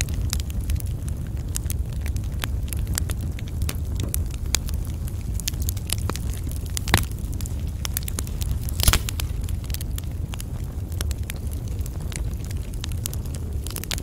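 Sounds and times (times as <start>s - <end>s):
low rumble of fire: 0.0s - 14.0s
wood fire crackling and popping: 0.0s - 14.0s.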